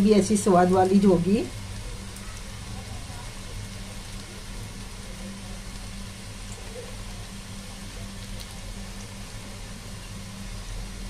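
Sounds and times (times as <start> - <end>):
patties sizzling in oil: 0.0 - 11.0
steady low hum: 0.0 - 11.0.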